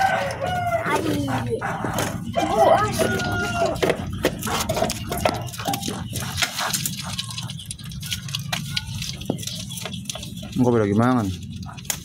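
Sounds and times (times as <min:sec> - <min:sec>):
porcupine gnawing corn: 0:00.0 - 0:12.0.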